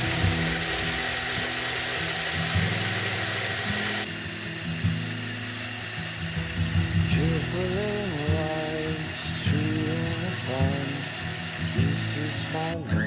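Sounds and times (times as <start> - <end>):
background music: 0.0 - 13.0
electric hand mixer whirring: 0.0 - 13.0.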